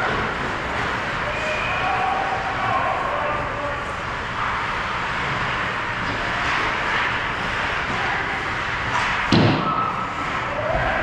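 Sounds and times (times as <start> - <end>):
ice rink background noise: 0.0 - 11.0.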